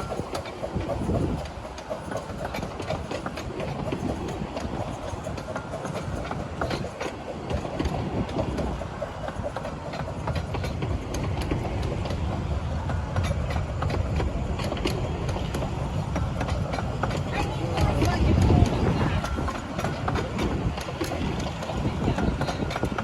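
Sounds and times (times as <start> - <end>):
train rumbling along track: 0.0 - 23.0
wheels clicking over rails: 0.0 - 23.0.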